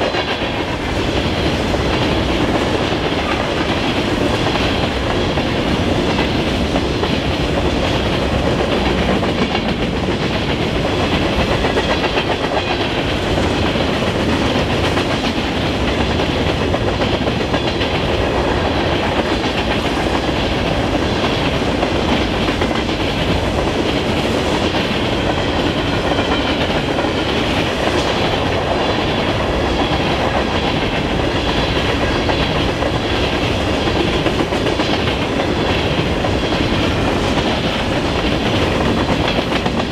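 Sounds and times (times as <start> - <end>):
wheel and rail noise: 0.0 - 39.9
wheels clacking over rail joints: 0.0 - 39.9.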